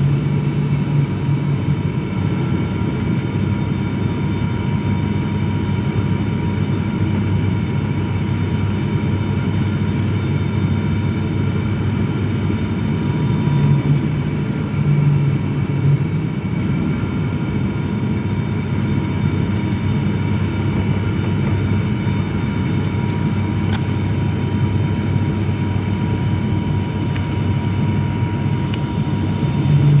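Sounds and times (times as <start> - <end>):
airliner engines droning in cabin: 0.0 - 30.0.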